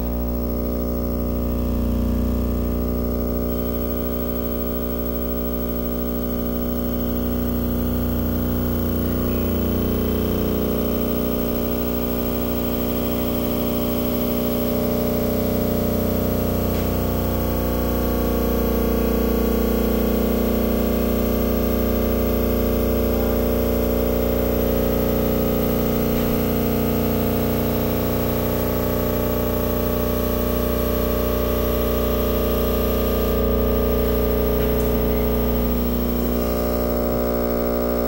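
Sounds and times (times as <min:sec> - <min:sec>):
electronic drone: 0:00.0 - 0:38.0.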